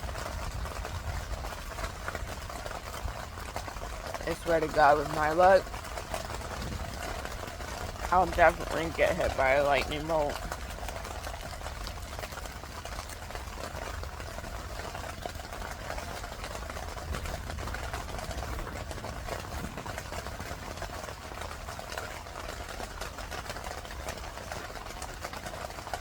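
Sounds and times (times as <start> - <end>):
constant low hum: 0.0 - 26.0
rain pattering on a tent: 0.0 - 26.0.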